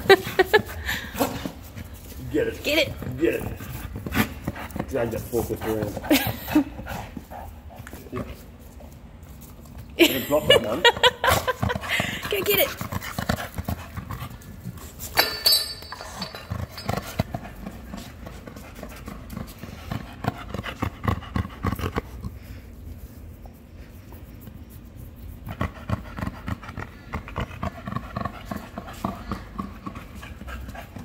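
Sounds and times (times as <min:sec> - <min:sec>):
dog panting: 0:00.0 - 0:15.0, 0:16.0 - 0:31.0.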